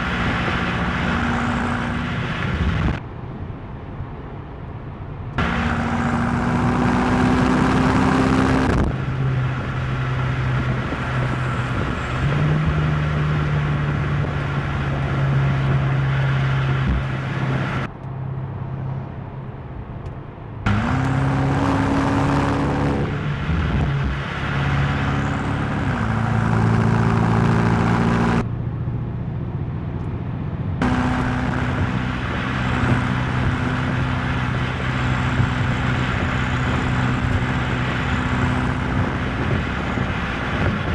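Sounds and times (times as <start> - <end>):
car engine running: 0.0 - 3.0, 5.4 - 15.2, 20.1 - 40.9
tyre and road noise: 0.0 - 40.9.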